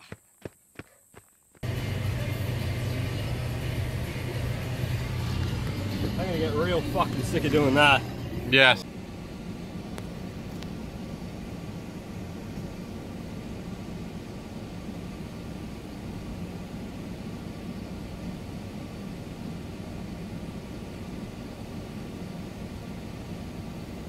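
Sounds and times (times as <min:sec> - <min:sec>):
vehicle engine and road rumble: 0:00.0 - 0:24.0.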